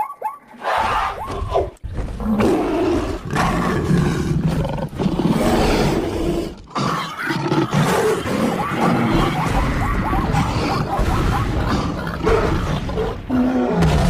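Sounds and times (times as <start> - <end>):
loud animal roars: 0.6 - 14.0.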